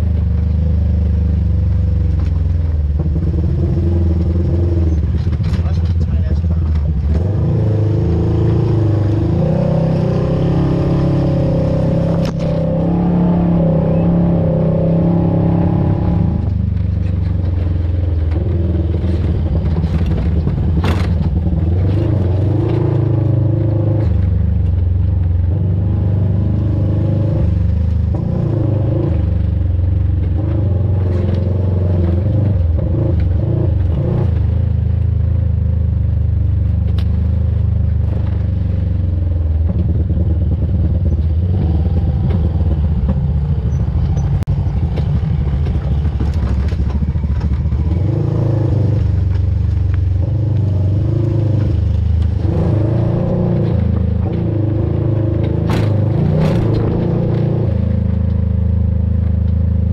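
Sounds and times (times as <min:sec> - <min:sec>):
off-road vehicle engine: 0:00.0 - 0:59.9.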